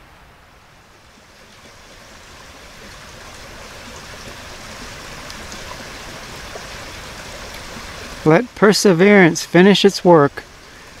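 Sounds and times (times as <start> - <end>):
stream flowing water: 0.0 - 11.0.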